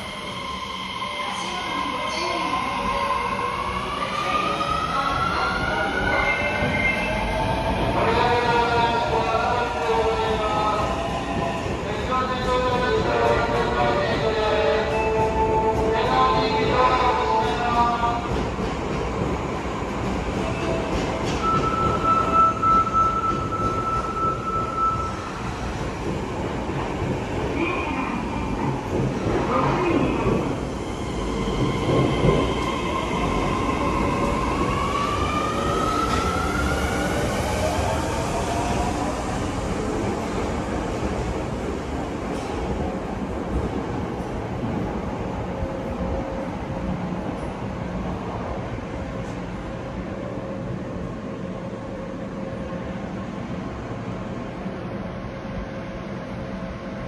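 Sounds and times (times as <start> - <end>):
subway train wheels rumbling: 0.0 - 57.0.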